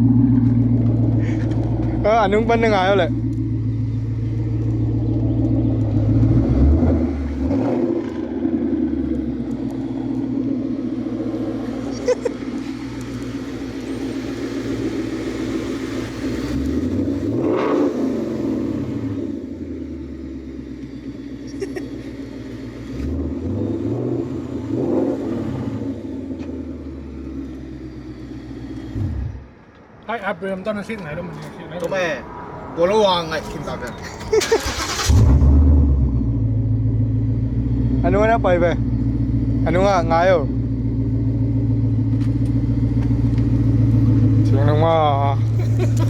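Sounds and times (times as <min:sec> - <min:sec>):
car engine idling and revving: 0:00.0 - 0:46.0.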